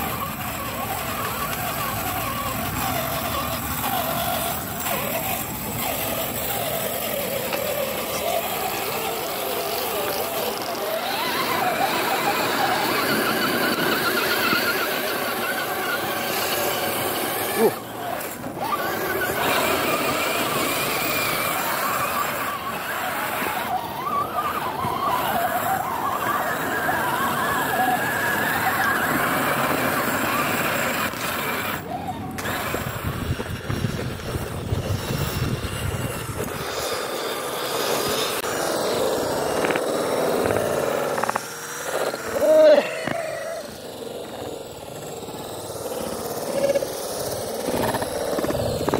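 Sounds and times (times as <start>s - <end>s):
electric motor and gearbox whining: 0.0s - 48.9s.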